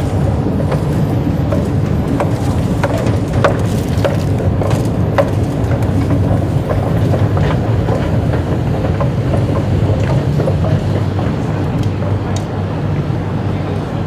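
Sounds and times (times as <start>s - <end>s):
station and escalator rumble: 0.0s - 14.0s
footstep taps: 0.6s - 12.5s.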